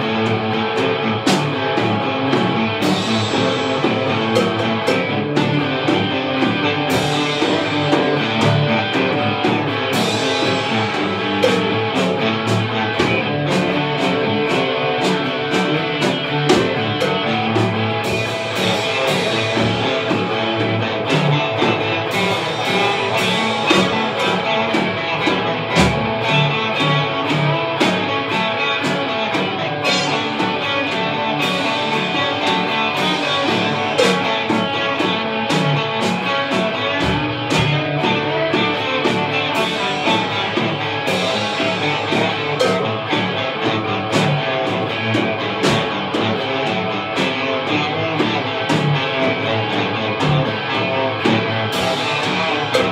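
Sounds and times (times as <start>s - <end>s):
drum kit steady beat: 0.0s - 52.9s
electric guitars playing rock: 0.0s - 52.9s.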